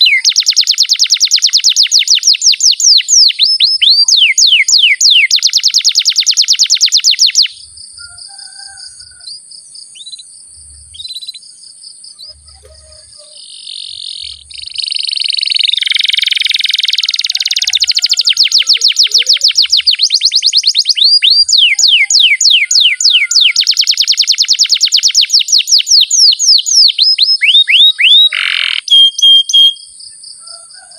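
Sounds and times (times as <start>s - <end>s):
canary singing: 0.0s - 30.0s.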